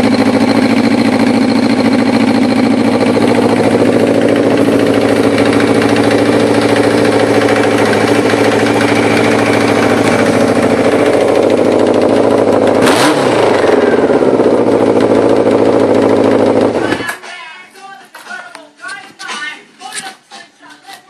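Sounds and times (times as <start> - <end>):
motorcycle engine idling: 0.0 - 17.2.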